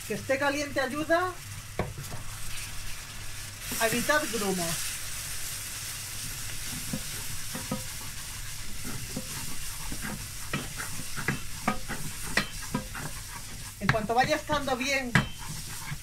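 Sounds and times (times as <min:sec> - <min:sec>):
milk sizzling in a saucepan: 0:00.0 - 0:16.0
wooden spatula scraping a pan: 0:01.9 - 0:05.0, 0:06.2 - 0:16.0.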